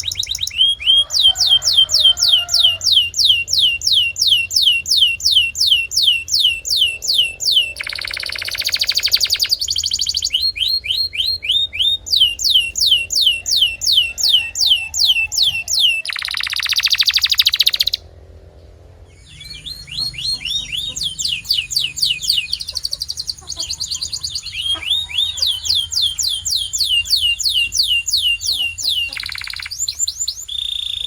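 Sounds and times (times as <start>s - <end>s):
canary singing: 0.0s - 18.1s, 19.1s - 31.0s.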